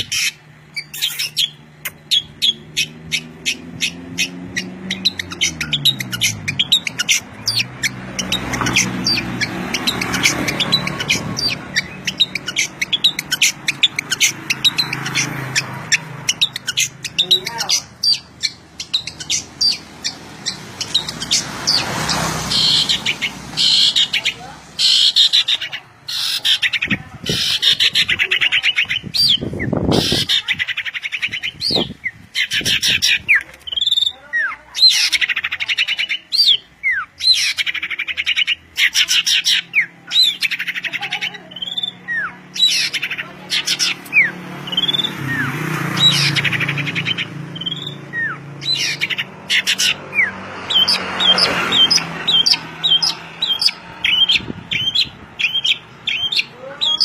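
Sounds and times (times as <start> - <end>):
bird sharp chips: 0.0 - 57.0
songbird singing: 0.0 - 57.0.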